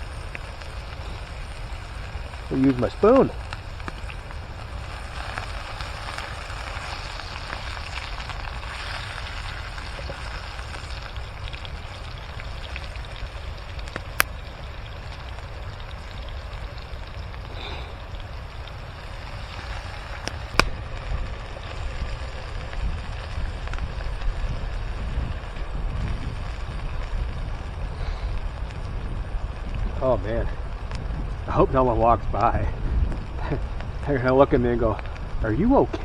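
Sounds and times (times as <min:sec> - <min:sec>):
campfire crackling: 0:00.0 - 0:36.0
fire wood snapping: 0:00.0 - 0:36.0
low rumble: 0:00.0 - 0:36.0.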